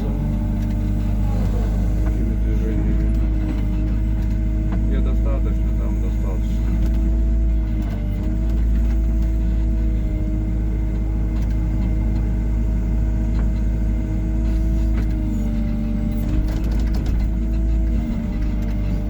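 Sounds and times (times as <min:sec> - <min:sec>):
excavator engine and hydraulics humming: 0:00.0 - 0:19.0.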